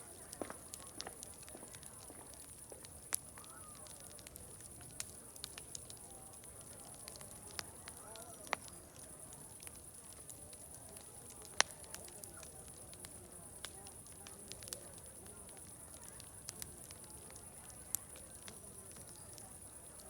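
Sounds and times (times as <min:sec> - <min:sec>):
distant voices chattering: 0:00.0 - 0:20.0
wood fire crackling and popping: 0:00.0 - 0:20.0.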